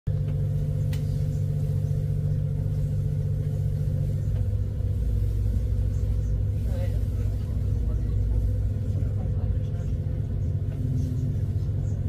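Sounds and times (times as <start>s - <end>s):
boat engine humming: 0.1s - 12.0s.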